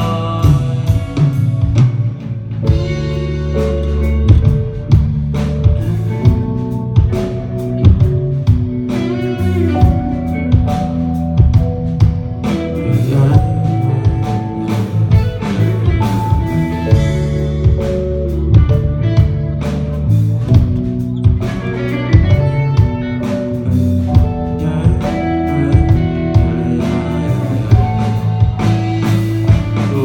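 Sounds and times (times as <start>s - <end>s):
bass: 0.0s - 30.0s
drum kit beat: 0.0s - 30.0s
electric guitar melody: 0.0s - 30.0s.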